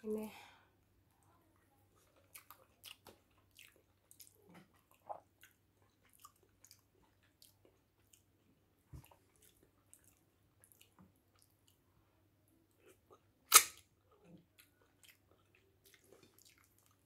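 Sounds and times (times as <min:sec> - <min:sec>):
wet chewing and mouth smacking: 0:01.6 - 0:11.8, 0:12.7 - 0:17.0.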